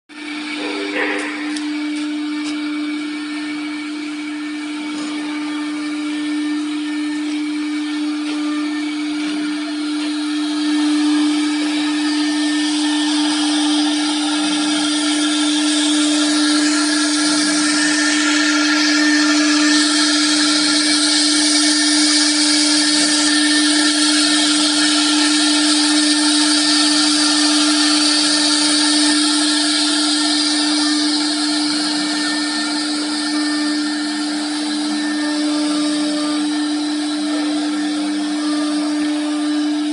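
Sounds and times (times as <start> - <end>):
router spindle whine: 0.1 - 39.9.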